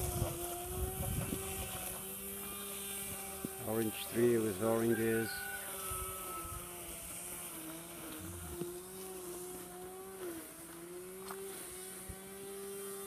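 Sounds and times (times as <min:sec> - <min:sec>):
motor running drone: 0:00.0 - 0:13.0.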